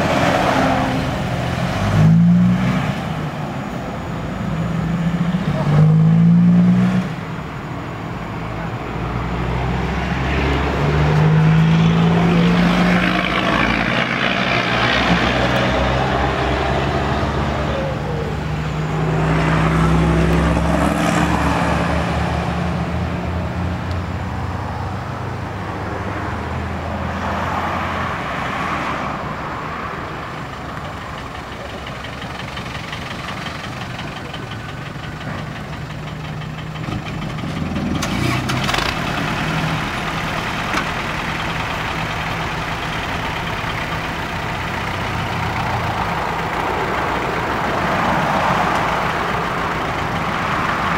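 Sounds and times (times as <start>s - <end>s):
truck diesel engine revving: 0.0s - 7.5s, 9.0s - 24.6s, 29.2s - 50.9s.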